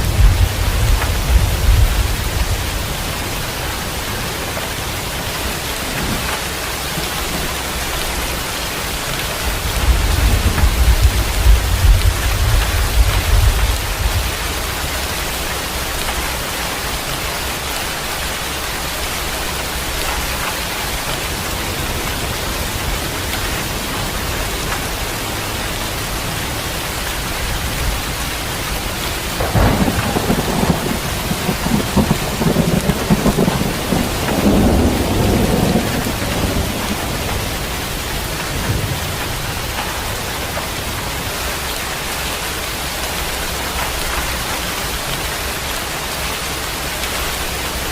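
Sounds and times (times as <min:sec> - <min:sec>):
thunder rumbling: 0:00.0 - 0:18.0, 0:18.7 - 0:41.3
heavy rain falling: 0:00.0 - 0:47.9.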